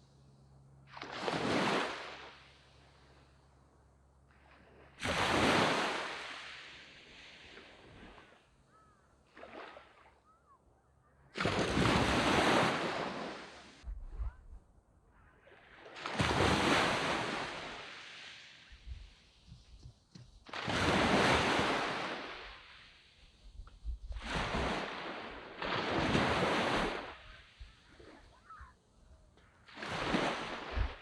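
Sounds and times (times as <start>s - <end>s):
sea waves breaking on beach: 0.9s - 3.3s, 4.3s - 8.6s, 9.2s - 10.2s, 11.4s - 13.8s, 15.4s - 28.8s, 29.6s - 31.0s.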